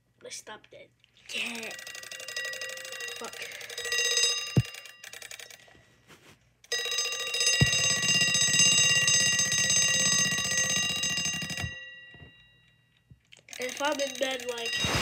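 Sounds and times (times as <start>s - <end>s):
alarm clock bell ringing: 1.4s - 5.7s, 6.7s - 15.0s.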